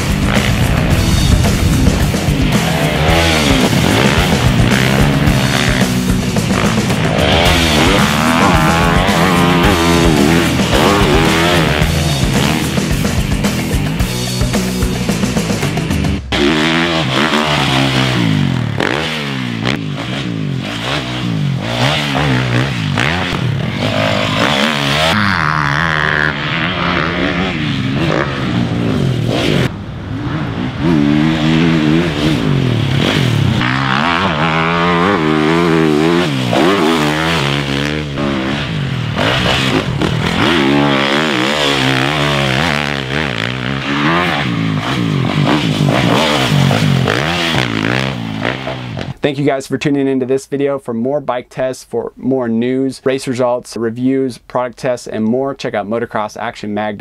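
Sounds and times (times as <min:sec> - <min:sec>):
motocross bike engine revving: 0:00.0 - 0:49.2.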